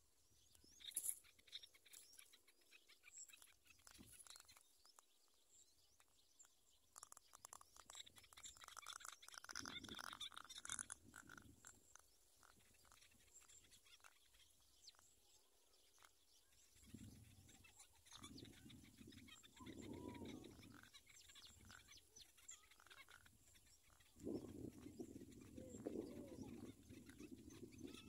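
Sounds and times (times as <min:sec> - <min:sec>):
small ticks and chirps: 0:00.0 - 0:28.0.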